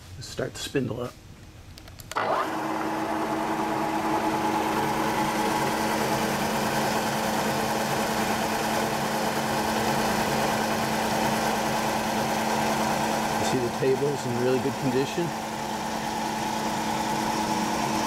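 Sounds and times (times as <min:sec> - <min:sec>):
milling machine spindle humming: 0:02.2 - 0:18.0.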